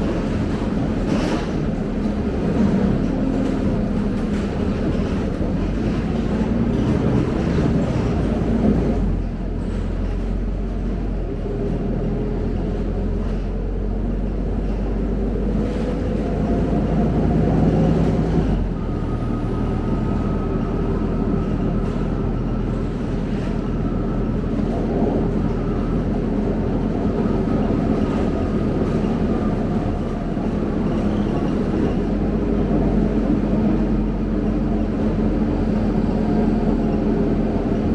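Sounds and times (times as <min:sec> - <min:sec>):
bus diesel engine running: 0:00.0 - 0:37.9
road and cabin noise: 0:00.0 - 0:37.9.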